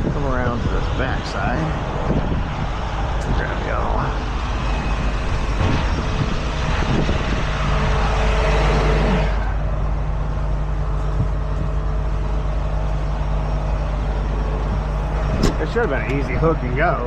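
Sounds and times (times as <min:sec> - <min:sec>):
heavy truck engine running: 0:00.0 - 0:17.0.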